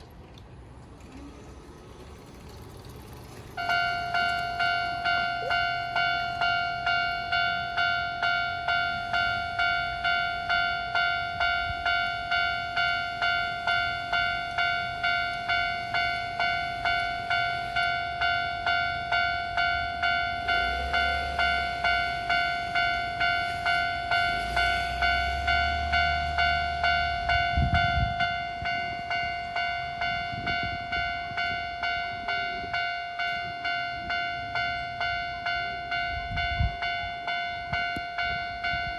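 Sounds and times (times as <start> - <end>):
railroad crossing bell dinging: 0.9 - 38.9.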